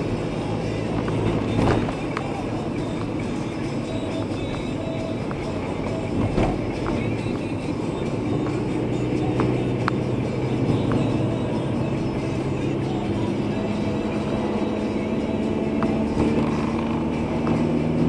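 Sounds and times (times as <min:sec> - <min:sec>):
car engine hum: 0:00.0 - 0:18.0
road noise: 0:00.0 - 0:18.0.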